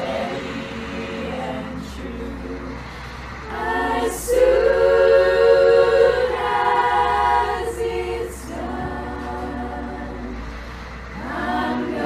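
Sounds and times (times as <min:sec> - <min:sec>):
girls' choir singing: 0:00.0 - 0:12.0.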